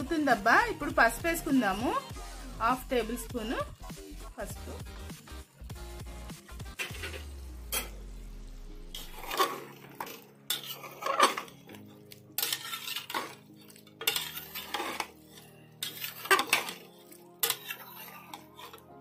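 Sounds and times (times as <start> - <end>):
metal spatula scraping a pot: 0.2 - 3.9, 6.4 - 8.0, 8.9 - 19.0.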